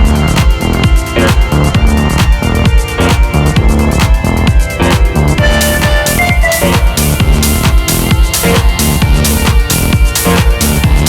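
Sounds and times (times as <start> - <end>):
kick drum: 0.0 - 11.0
techno music: 0.0 - 11.0.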